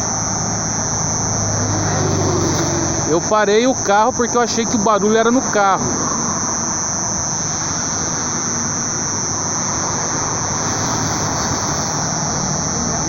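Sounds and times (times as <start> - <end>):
high-pitched buzzing drone: 0.0 - 13.0
low rumbling noise: 0.0 - 13.0.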